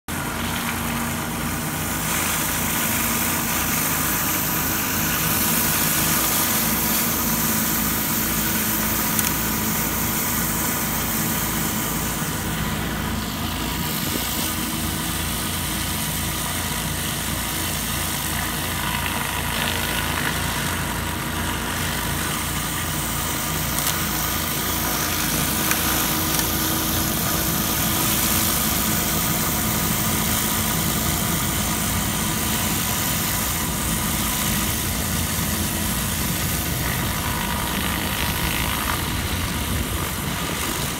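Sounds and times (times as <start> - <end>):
pressure washer engine running: 0.0 - 40.9
high-pressure water spraying hiss: 0.1 - 40.9.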